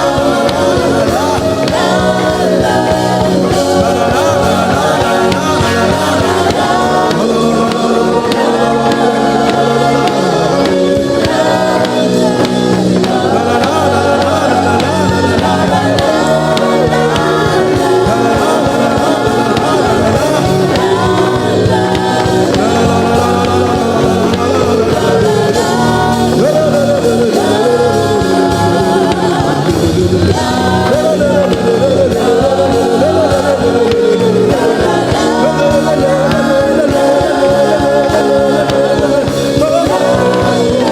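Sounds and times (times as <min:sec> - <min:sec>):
gospel worship singing with instruments: 0:00.0 - 0:40.9.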